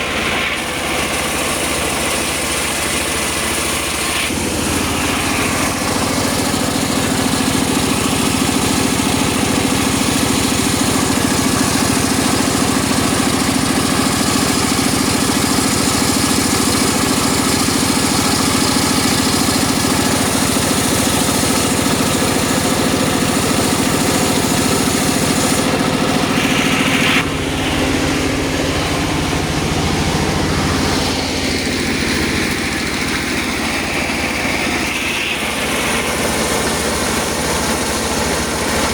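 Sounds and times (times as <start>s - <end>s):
circular saw machine droning: 0.0s - 38.9s.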